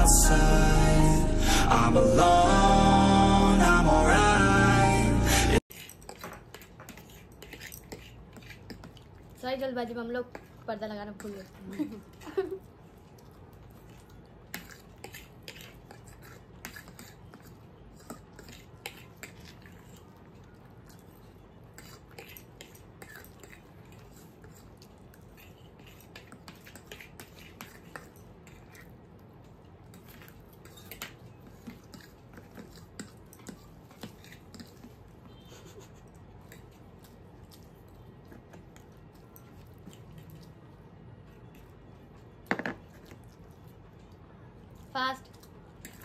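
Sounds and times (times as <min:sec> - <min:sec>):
people chewing: 0:00.0 - 0:09.3, 0:11.2 - 0:46.0.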